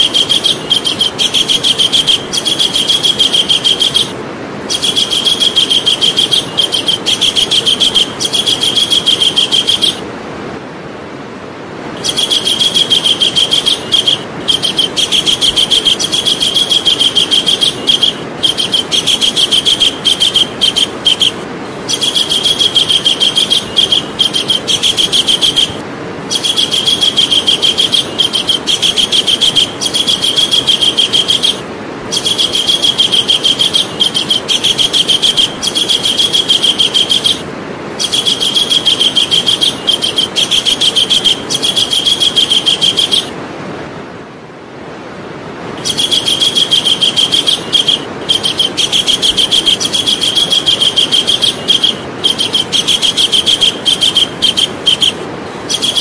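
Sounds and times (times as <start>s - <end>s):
kingfisher calling high notes: 0.0s - 10.1s, 12.0s - 43.4s, 45.8s - 56.0s.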